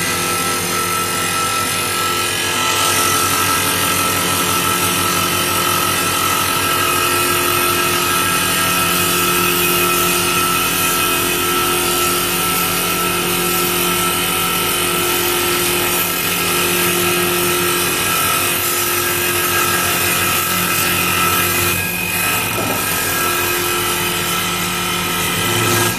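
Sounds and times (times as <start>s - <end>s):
cutter rasping against wood: 0.0s - 25.9s
lathe motor and spindle whine: 0.0s - 25.9s.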